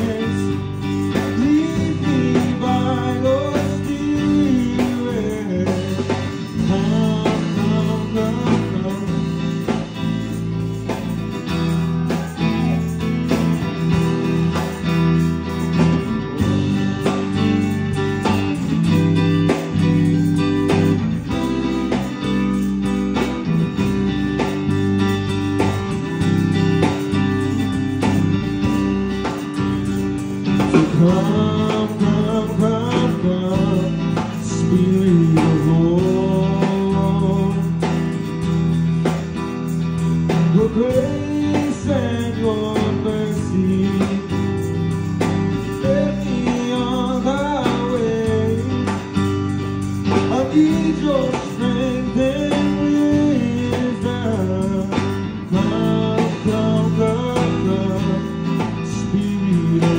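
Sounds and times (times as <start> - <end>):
man singing: 0.0 - 39.3, 39.9 - 59.9
live gospel band music: 0.0 - 59.9.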